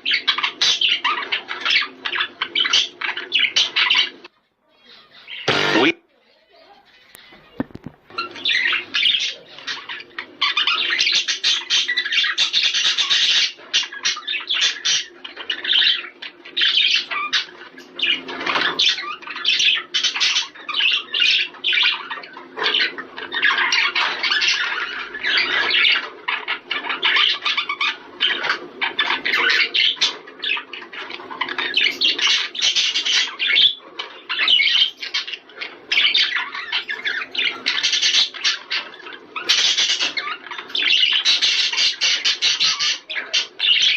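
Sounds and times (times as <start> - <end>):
budgerigars chattering and warbling: 0.0 - 43.9.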